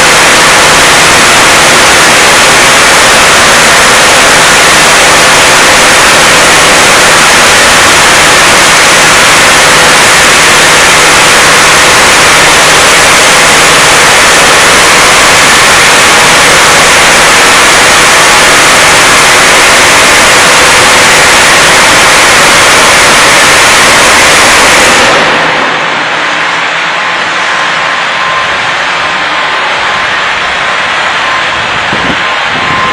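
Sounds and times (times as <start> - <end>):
floor milling machine running: 0.0 - 32.9.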